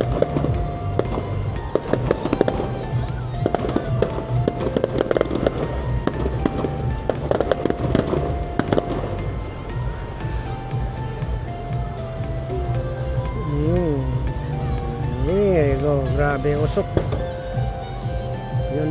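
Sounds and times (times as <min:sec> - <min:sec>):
music playing: 0:00.0 - 0:18.9.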